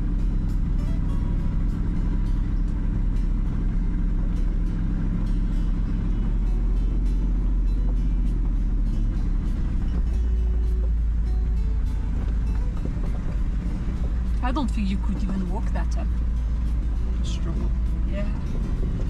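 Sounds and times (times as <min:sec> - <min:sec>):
background music: 0:00.0 - 0:19.0
engine running steadily: 0:00.0 - 0:19.0.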